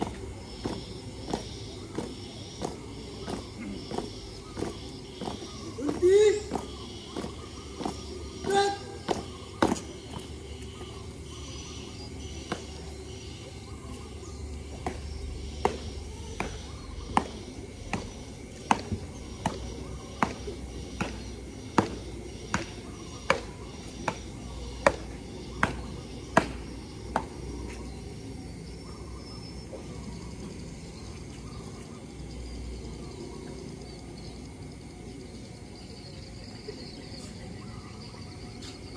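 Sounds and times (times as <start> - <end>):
low outdoor hum: 0.0 - 38.9.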